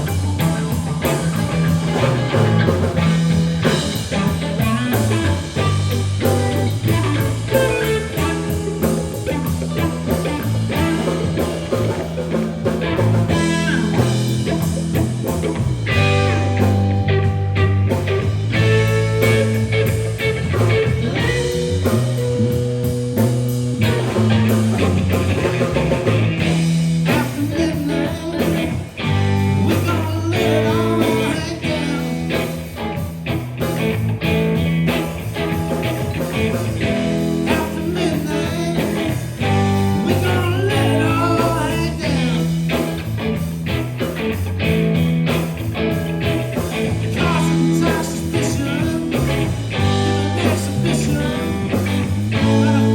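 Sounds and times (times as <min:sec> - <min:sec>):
blues rock band playing: 0:00.0 - 0:52.9
electric guitar: 0:00.0 - 0:52.9.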